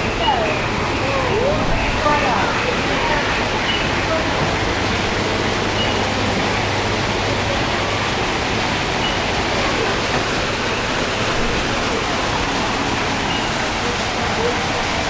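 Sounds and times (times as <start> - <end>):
falling water rushing: 0.0 - 15.0
murmur of voices: 0.0 - 15.0.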